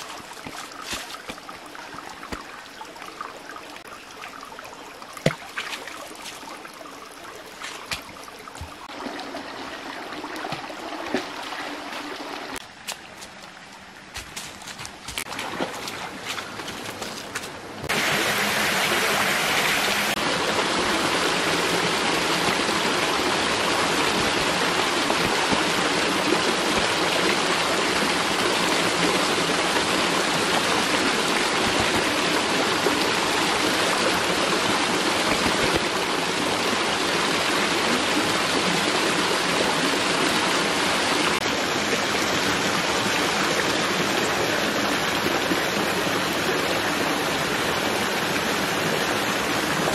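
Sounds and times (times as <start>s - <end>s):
water rushing over stones: 0.0s - 49.9s.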